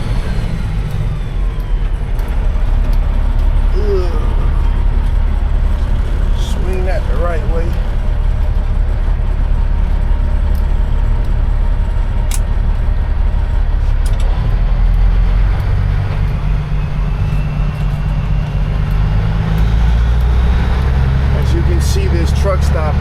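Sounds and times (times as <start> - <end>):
truck diesel engine running: 0.0 - 23.0.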